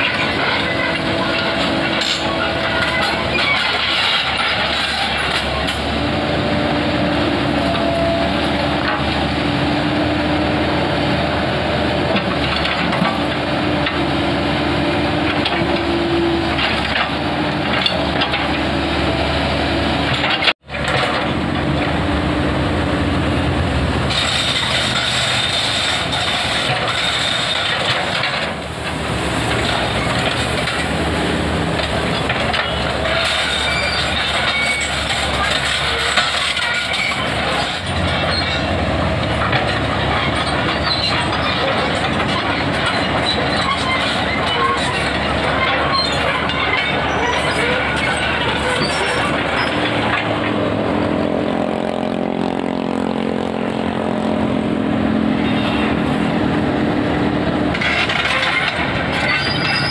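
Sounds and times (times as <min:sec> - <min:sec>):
excavator running: 0:00.0 - 0:59.9.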